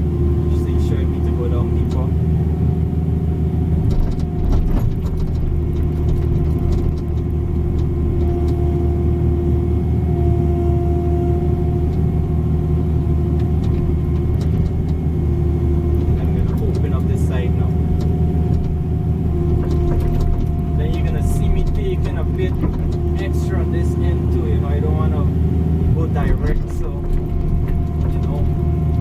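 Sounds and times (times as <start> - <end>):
excavator diesel engine running: 0.0 - 29.0
hydraulic whine: 0.0 - 29.0.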